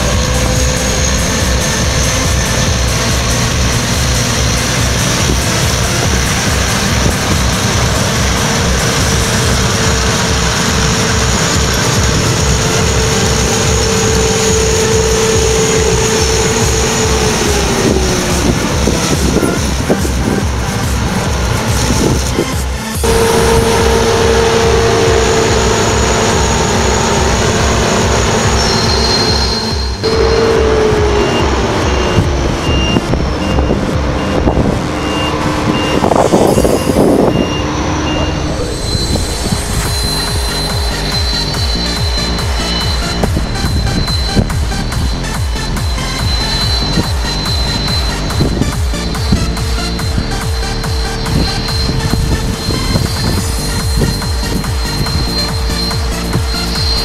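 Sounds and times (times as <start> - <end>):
combine harvester running: 0.0 - 57.0
constant machine whine: 0.0 - 57.0
reversing alarm beeping: 0.0 - 57.0.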